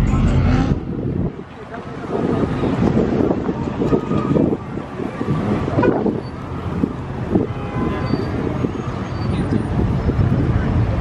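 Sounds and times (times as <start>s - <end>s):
car engines rumbling: 0.0s - 11.0s.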